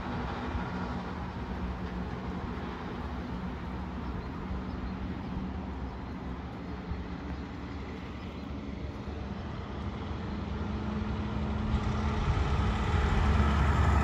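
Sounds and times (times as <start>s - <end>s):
diesel truck engines droning: 0.0s - 14.0s.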